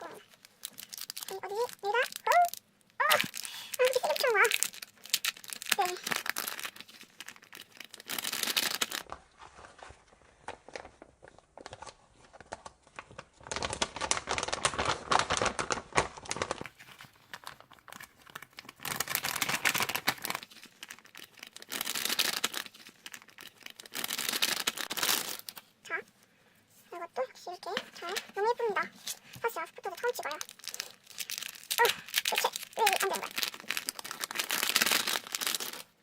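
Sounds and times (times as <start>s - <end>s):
packaging tearing and crinkling: 0.0s - 9.7s, 10.4s - 25.7s, 27.6s - 36.0s.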